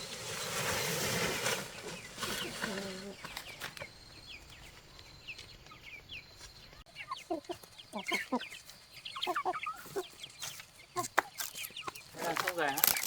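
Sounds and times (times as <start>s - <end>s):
chickens clucking: 1.7s - 13.0s.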